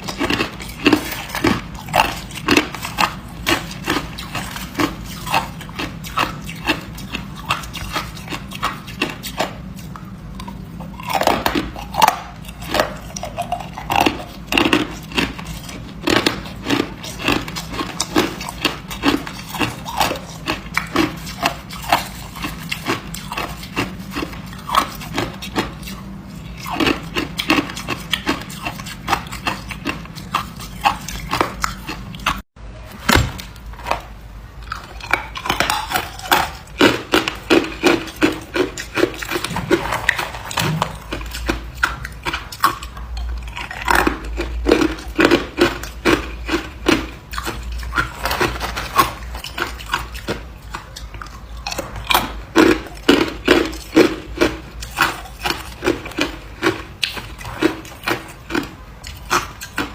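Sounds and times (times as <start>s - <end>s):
ice being chewed: 0.0s - 32.4s, 33.5s - 59.9s.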